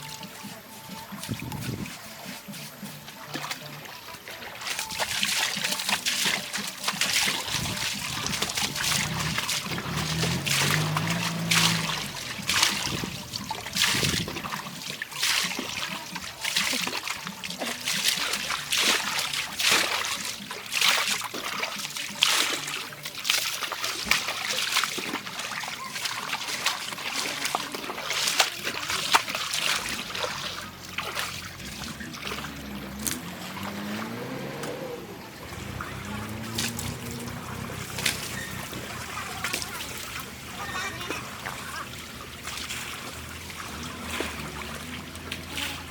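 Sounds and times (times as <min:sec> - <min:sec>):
water splashing and trickling: 0:00.0 - 0:45.9.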